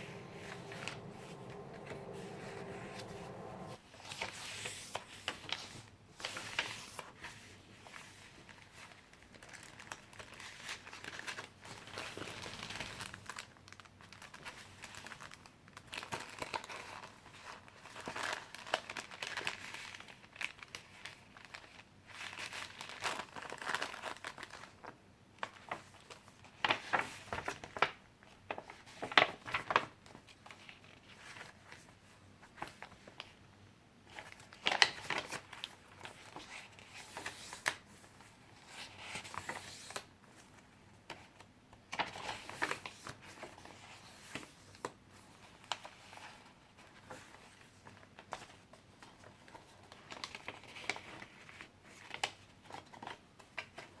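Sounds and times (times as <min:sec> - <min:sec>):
paper rustling and crinkling: 0:00.1 - 0:33.4, 0:34.1 - 0:54.0.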